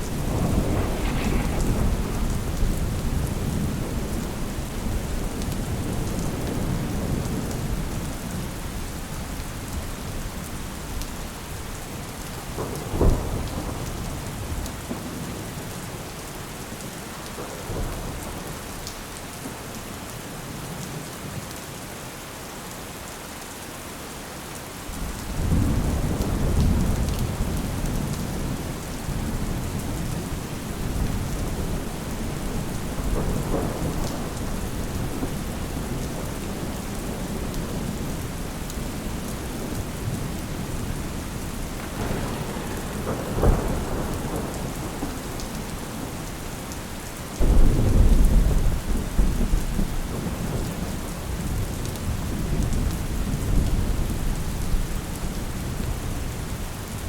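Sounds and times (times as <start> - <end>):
thunder rumbling and cracking: 0.0 - 16.0, 24.9 - 57.0
steady rain falling: 0.0 - 57.0.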